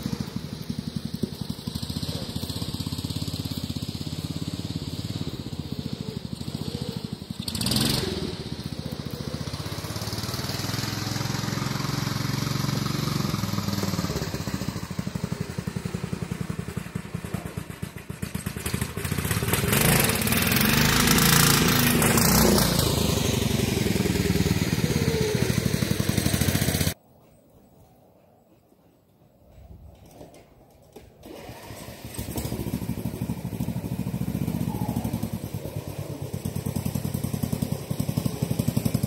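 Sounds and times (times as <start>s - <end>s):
riding lawn mower engine passing: 0.0s - 27.0s, 31.2s - 39.0s.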